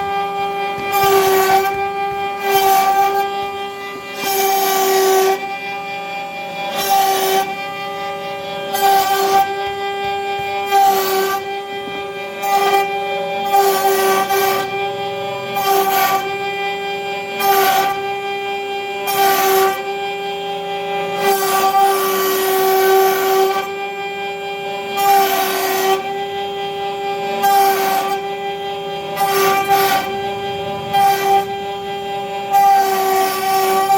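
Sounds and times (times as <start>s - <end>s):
bit cutting wood: 0.0s - 33.9s
router spindle whine: 0.0s - 33.9s.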